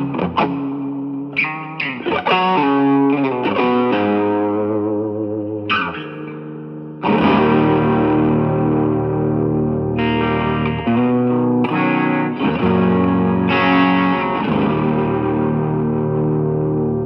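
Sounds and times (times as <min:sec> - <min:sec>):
electric guitar strumming chords: 0:00.0 - 0:17.0.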